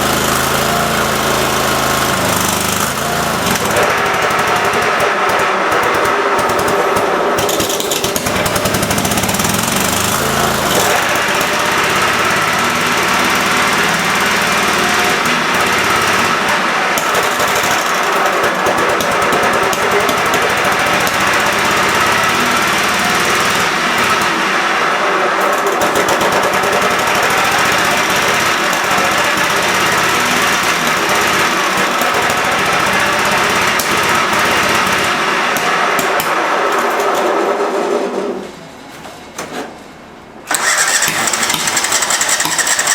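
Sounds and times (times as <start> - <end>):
lawn tractor engine running: 0.0 - 38.2, 40.4 - 42.9.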